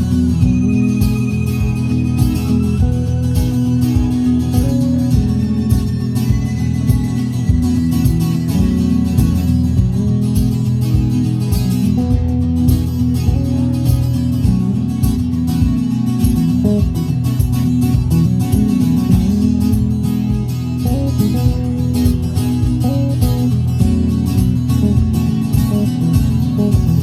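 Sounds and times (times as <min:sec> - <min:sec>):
guitar-led music: 0:00.0 - 0:27.0
low beat thump: 0:00.0 - 0:27.0.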